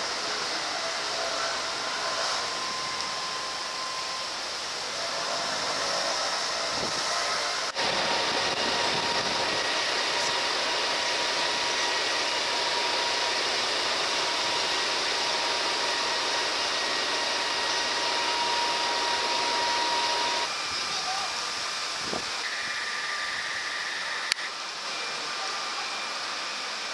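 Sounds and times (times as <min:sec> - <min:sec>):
fire engines rushing noise: 0:00.0 - 0:24.5
faint steady whine: 0:00.0 - 0:26.9.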